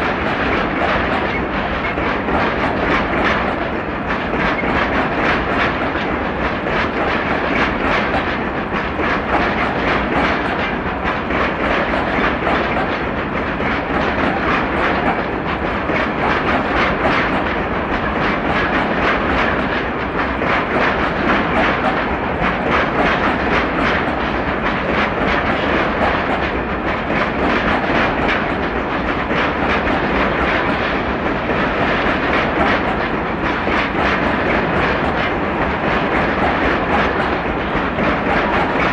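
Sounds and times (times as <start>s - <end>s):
rumble of wheels on rail: 0.0s - 38.9s.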